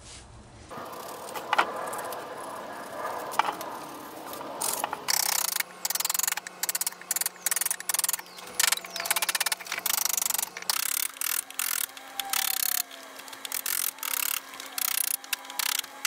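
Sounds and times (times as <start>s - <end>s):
carving gouge scraping wood: 0.7s - 16.0s.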